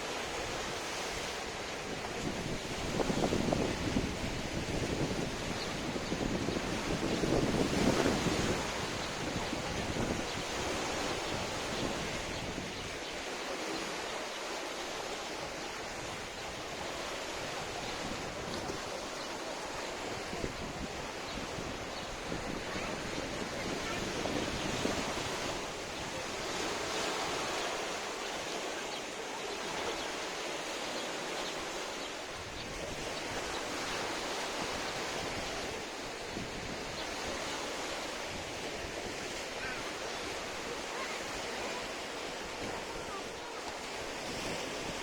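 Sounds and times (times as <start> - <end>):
waves washing onto shore: 0.0 - 45.0.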